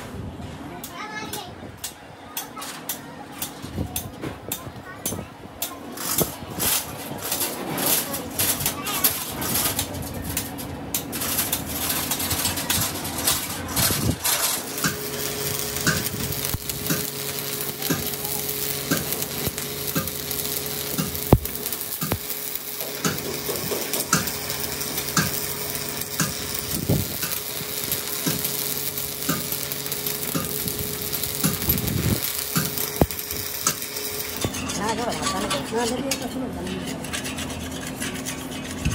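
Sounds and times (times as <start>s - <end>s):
welding arc crackling and sizzling: 5.6s - 38.9s.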